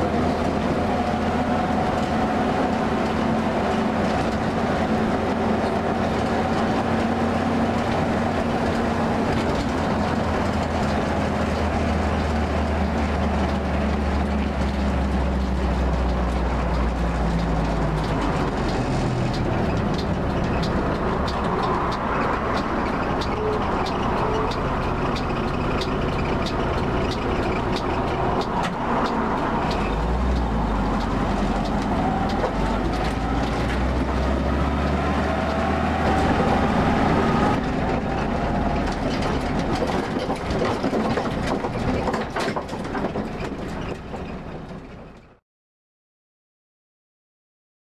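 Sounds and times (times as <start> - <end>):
car engine running: 0.0 - 44.8
road noise: 0.0 - 45.4.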